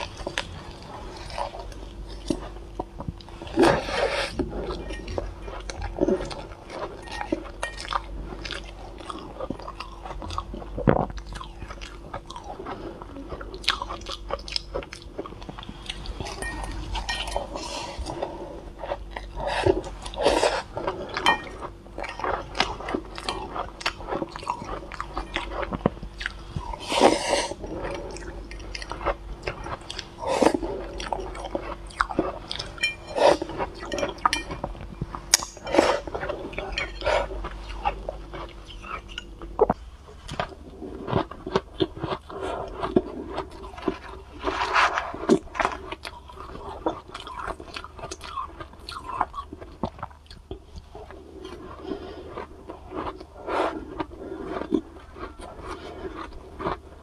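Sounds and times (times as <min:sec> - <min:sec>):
chewing shaved ice: 0:00.0 - 0:57.0.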